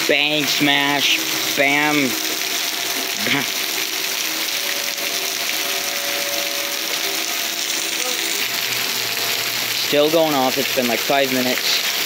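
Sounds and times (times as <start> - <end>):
heavy rain splashing off gutters: 0.0 - 12.0
distant warning sirens: 0.2 - 11.0.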